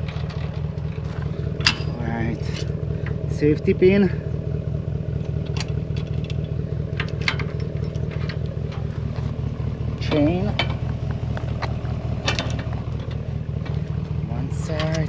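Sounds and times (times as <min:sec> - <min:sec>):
metallic clicks of hitch hardware: 0:00.0 - 0:03.3, 0:05.2 - 0:09.3, 0:10.0 - 0:15.0
truck engine idling: 0:00.0 - 0:15.0.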